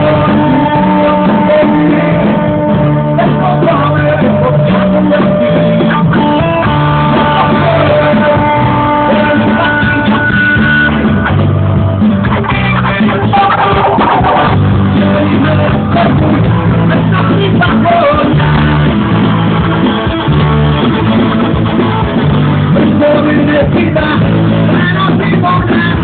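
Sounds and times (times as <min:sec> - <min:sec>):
person singing: 0:00.0 - 0:11.5, 0:12.1 - 0:19.9, 0:22.6 - 0:26.0
electric guitar rock music: 0:00.0 - 0:26.0.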